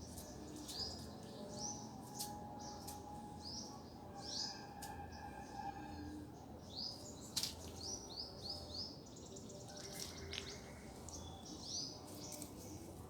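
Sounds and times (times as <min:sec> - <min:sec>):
small birds chirping: 0:00.0 - 0:04.5, 0:06.6 - 0:13.0.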